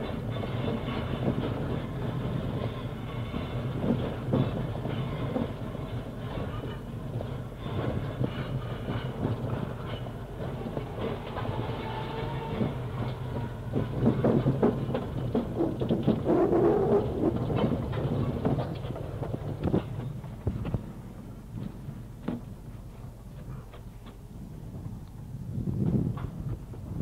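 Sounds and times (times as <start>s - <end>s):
tram running on rails: 0.0s - 27.0s
wheels clacking on track: 0.0s - 27.0s.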